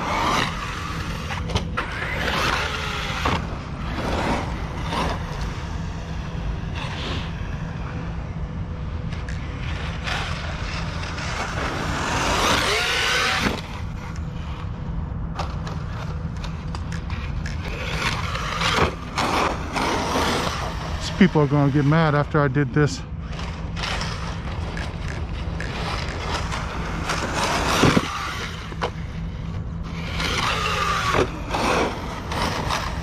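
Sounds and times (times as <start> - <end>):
toy truck running noise: 0.0 - 7.8, 9.1 - 14.6, 15.4 - 33.0.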